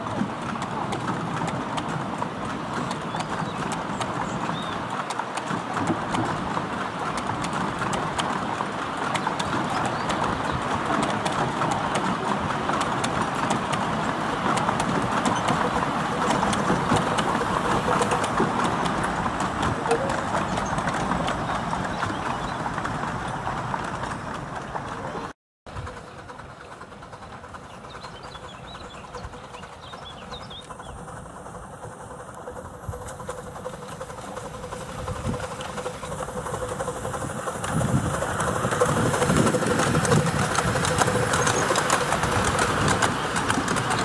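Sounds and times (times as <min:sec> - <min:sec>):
small steel wheels rumbling on rail: 0:00.0 - 0:44.0
wheels clattering over rail joints: 0:00.0 - 0:44.0.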